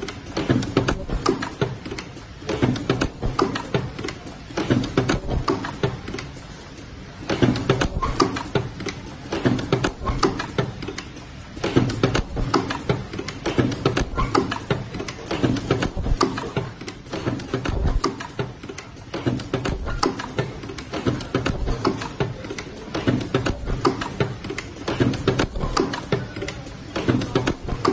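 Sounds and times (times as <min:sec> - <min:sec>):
welding machine clattering: 0:00.0 - 0:27.9.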